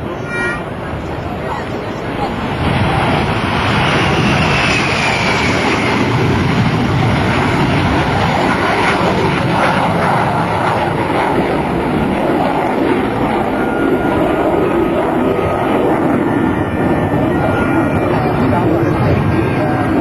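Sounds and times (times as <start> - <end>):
jet engine roaring: 0.0 - 20.0.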